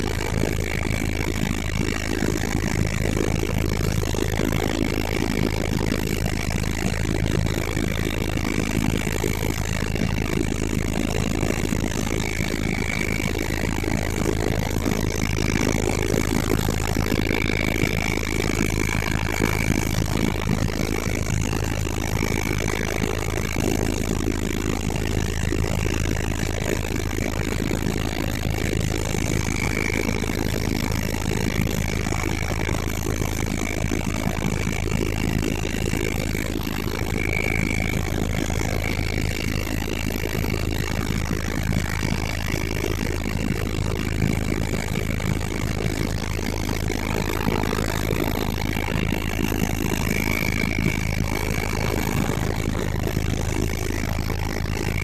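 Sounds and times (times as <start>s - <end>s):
helicopter engine and rotor drone: 0.0s - 55.0s
high engine whine: 0.0s - 55.0s.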